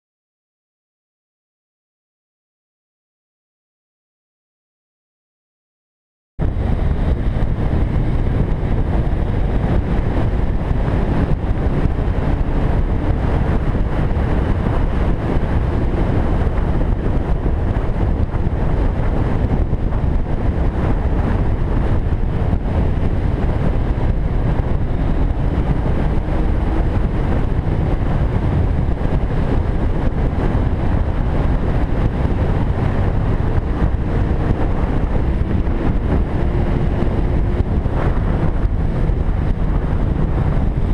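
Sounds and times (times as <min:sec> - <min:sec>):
motorcycle engine: 0:06.4 - 0:40.9
wind buffeting microphone: 0:06.4 - 0:40.9.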